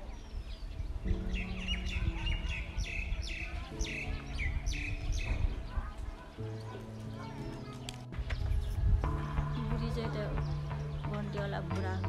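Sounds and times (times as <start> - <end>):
bird chirping: 0.0 - 12.0
low background music: 0.0 - 12.0.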